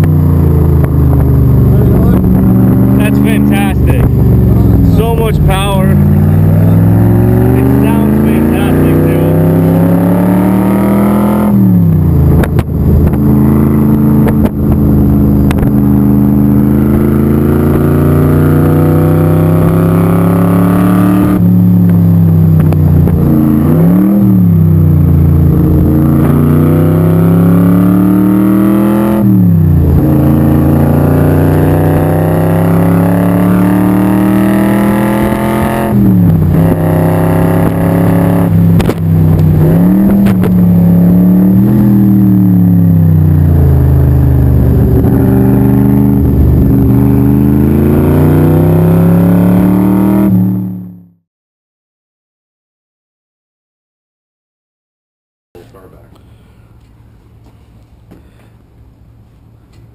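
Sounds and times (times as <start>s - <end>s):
engine throttle blips: 0.0s - 51.0s
car engine at full throttle: 0.0s - 51.2s.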